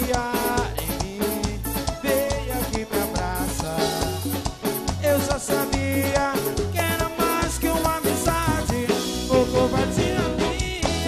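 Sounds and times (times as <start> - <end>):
fast drum beat: 0.0 - 11.0
pulsing bass: 0.0 - 11.0.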